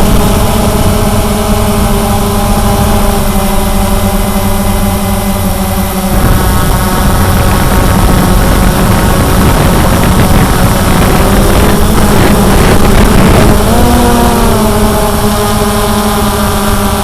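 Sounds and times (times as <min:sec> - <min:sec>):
drone motors buzzing: 0:00.0 - 0:17.0.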